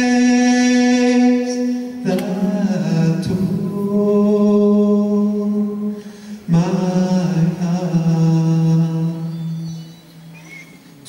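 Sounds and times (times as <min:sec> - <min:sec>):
man singing through microphone: 0:00.0 - 0:10.0.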